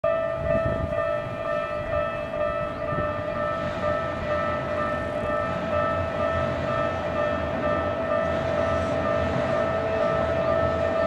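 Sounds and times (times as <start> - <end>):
level-crossing warning bells: 0.0 - 11.0.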